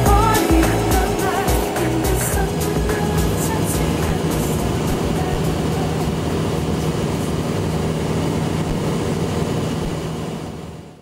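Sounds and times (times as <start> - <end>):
propeller plane engine from cabin: 0.0 - 11.0.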